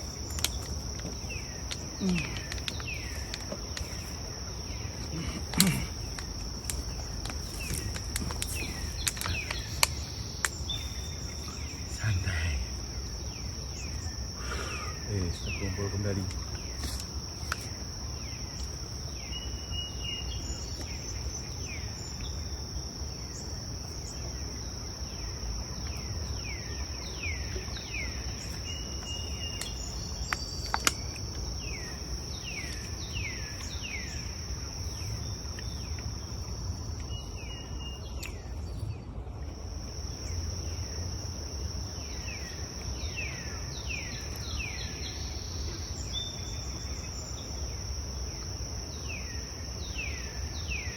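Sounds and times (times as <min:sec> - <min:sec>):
insects shrilling steadily: 0:00.0 - 0:50.9.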